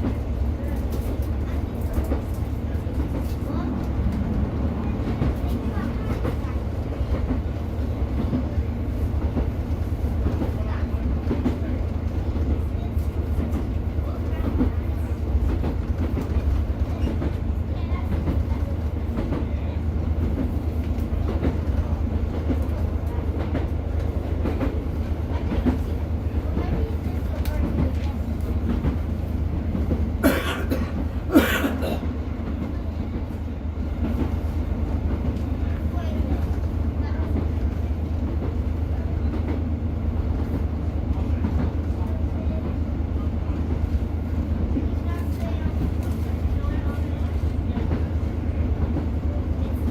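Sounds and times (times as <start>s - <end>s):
train low rumble: 0.0s - 49.9s
wheels clicking on track: 0.0s - 49.9s.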